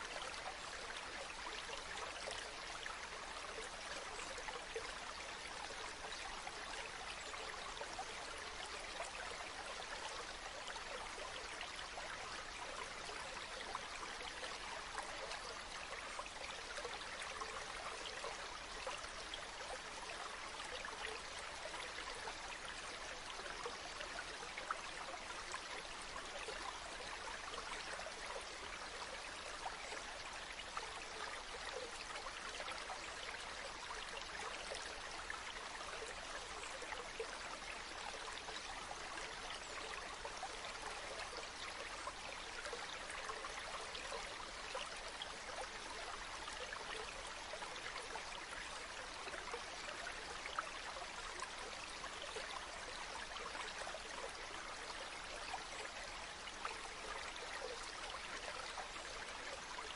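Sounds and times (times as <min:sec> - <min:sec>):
stream trickling and splashing: 0:00.0 - 0:59.9.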